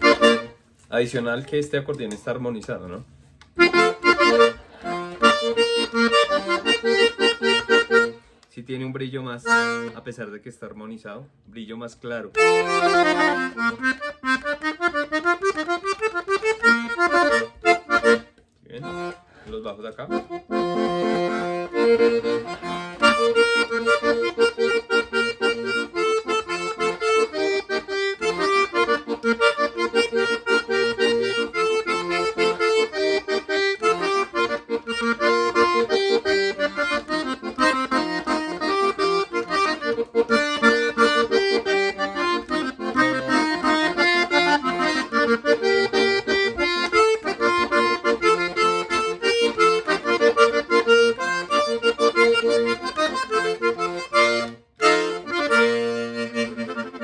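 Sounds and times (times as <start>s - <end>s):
button accordion playing a tune: 0.0s - 1.6s, 3.4s - 8.5s, 9.4s - 10.1s, 12.3s - 57.0s.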